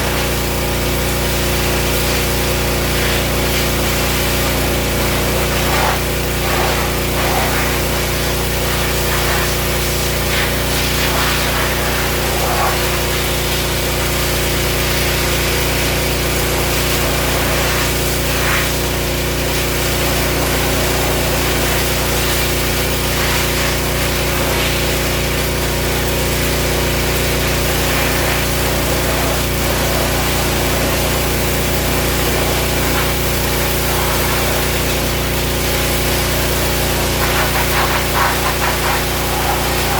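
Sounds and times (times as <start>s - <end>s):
pressure washer motor hum: 0.0s - 39.9s
water spray hissing: 0.0s - 39.9s.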